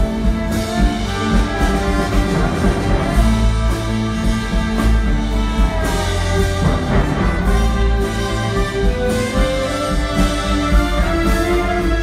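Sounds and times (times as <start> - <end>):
symphony orchestra playing: 0.0 - 12.0.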